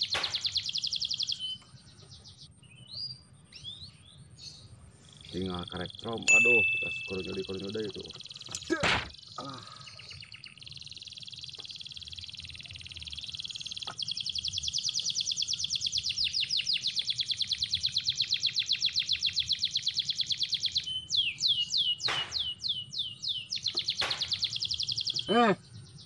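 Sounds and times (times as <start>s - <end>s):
small bird singing: 0.0s - 26.0s.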